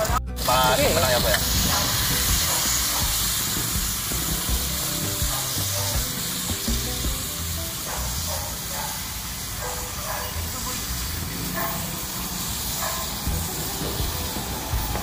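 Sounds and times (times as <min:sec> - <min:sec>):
food sizzling on hot plate: 0:00.0 - 0:15.0.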